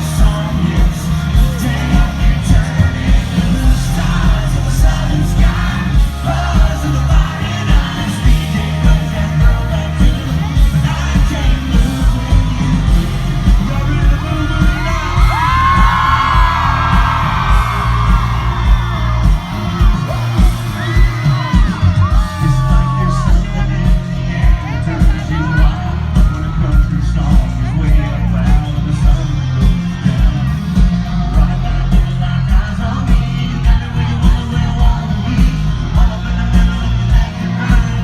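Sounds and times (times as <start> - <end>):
band playing with heavy bass: 0.0 - 38.0
crowd yelling and whooping: 0.0 - 38.0
person singing: 0.0 - 38.0.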